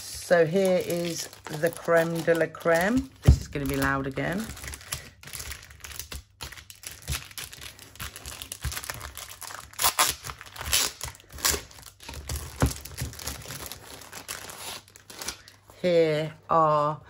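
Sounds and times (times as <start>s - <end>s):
plastic packaging being torn: 0.5s - 15.6s.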